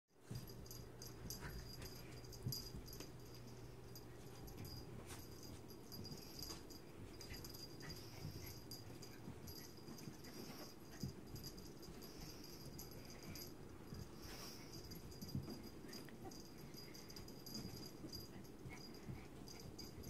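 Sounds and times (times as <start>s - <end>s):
animals play-wrestling on carpet: 0.2s - 20.0s.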